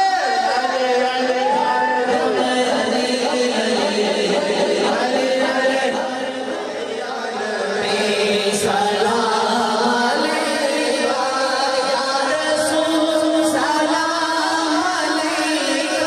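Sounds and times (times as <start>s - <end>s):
men singing through loudspeakers: 0.0s - 16.0s.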